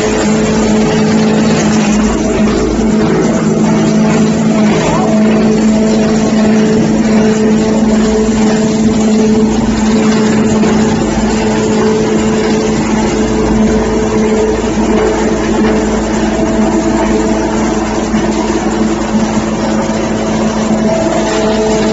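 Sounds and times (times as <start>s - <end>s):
hammer mill shredder running: 0.0s - 21.9s.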